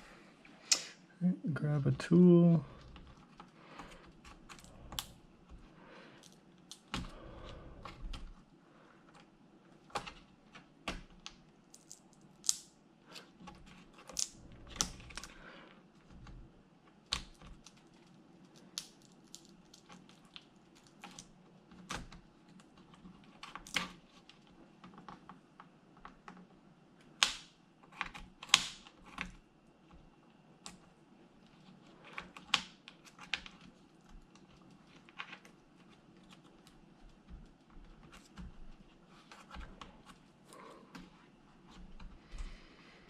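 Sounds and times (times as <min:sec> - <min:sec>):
small tool clicking and scraping plastic: 0:02.8 - 0:08.4, 0:09.0 - 0:15.4, 0:16.0 - 0:42.4.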